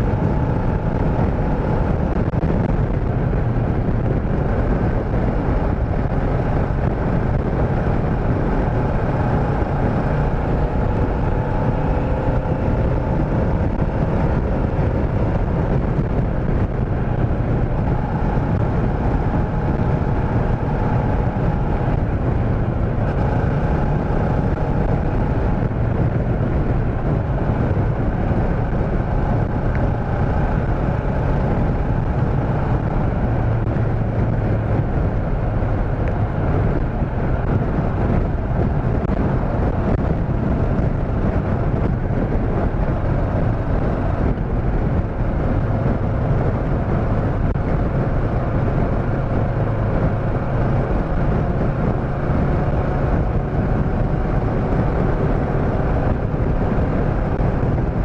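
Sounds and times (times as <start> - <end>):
motorcycle engine drone: 0.0 - 58.0
wind rush on microphone: 0.0 - 58.0.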